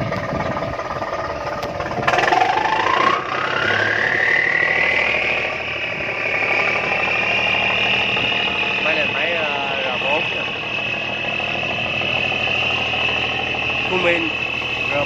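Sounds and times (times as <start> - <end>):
diesel engine revving: 0.0 - 15.0
rising engine whine: 0.0 - 15.0.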